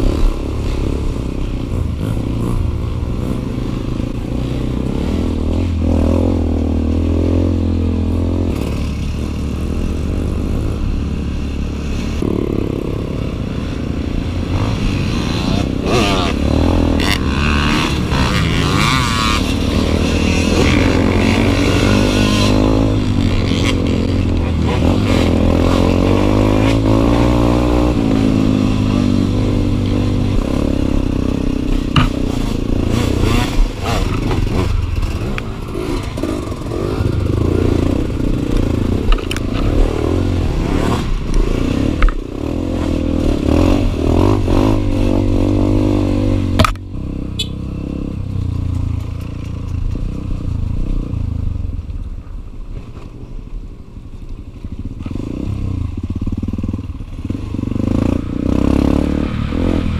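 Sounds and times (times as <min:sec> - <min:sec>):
dirt bike engine revving: 0:00.0 - 0:48.2, 0:55.0 - 0:59.9.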